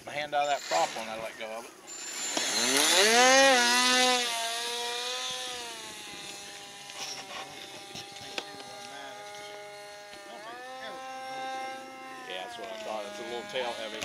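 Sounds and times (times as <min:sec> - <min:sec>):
rc airplane motor and propeller whine: 0:00.1 - 0:14.0.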